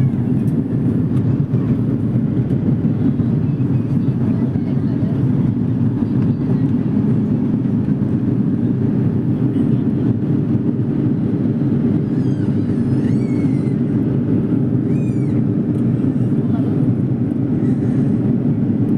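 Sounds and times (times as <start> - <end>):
airplane cabin engine roar: 0.0 - 18.9.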